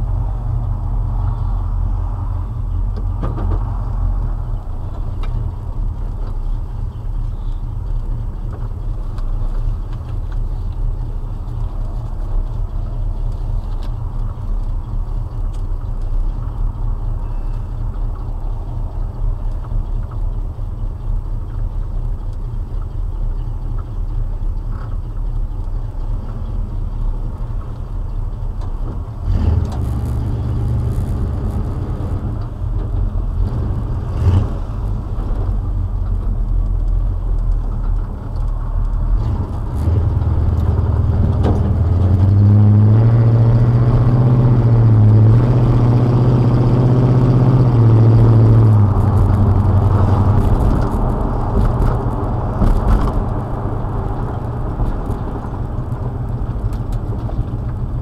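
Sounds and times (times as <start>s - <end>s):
truck engine and exhaust: 0.0s - 58.0s.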